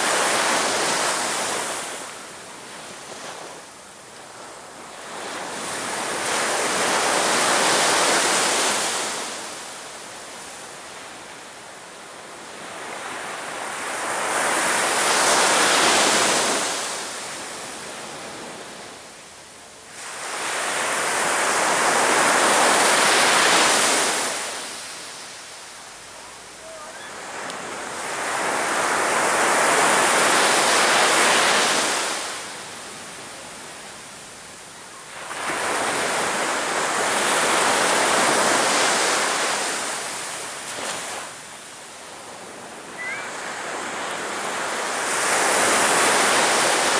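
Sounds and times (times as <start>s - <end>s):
sea waves breaking on beach: 0.0s - 3.6s, 4.2s - 11.3s, 12.2s - 19.0s, 19.9s - 34.3s, 35.0s - 46.9s.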